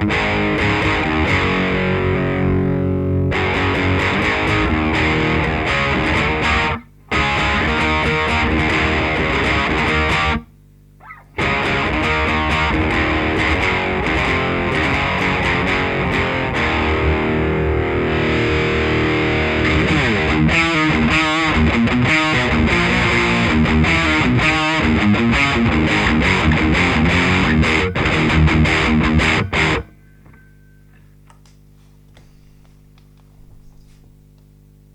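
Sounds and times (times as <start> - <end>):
distorted electric guitar riffs: 0.0 - 31.2.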